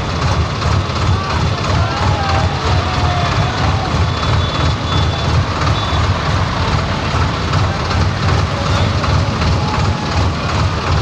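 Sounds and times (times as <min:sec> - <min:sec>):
tractor diesel engines rumbling: 0:00.0 - 0:11.0.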